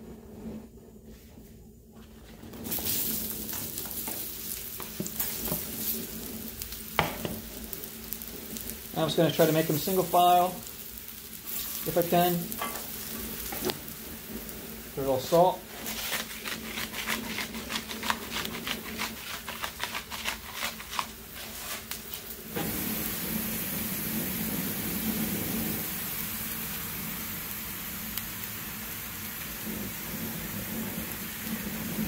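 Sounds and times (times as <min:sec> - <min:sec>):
plantain slices sizzling in oil: 0:02.2 - 0:32.0.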